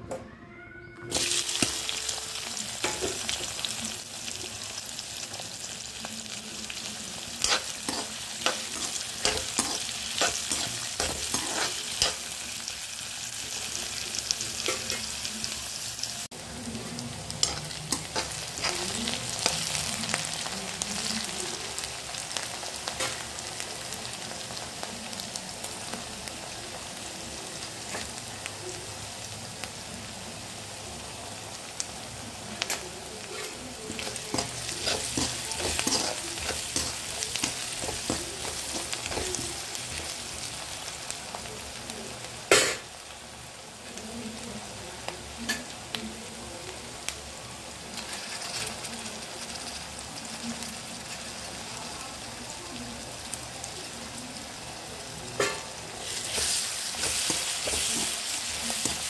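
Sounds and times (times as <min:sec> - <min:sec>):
onions sizzling: 0:00.6 - 0:59.0.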